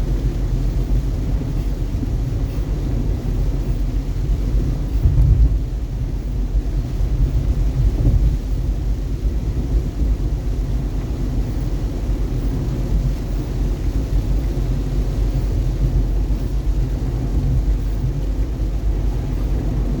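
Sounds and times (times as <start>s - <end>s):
car driving in heavy rain: 0.0s - 20.0s
gusty wind: 0.0s - 20.0s.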